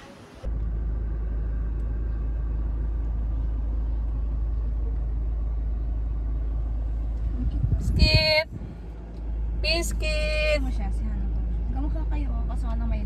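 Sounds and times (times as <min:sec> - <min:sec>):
car interior rumble while driving: 0:00.2 - 0:13.0.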